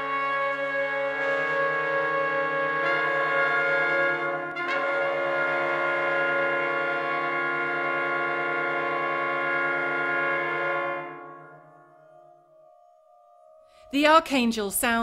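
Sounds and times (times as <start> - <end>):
brass chord of trumpets and trombones: 0.0 - 12.4.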